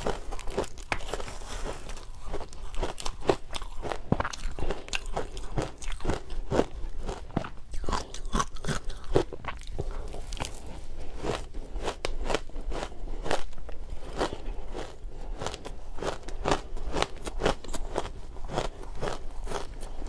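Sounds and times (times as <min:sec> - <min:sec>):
chewing crunches: 0:00.0 - 0:20.0.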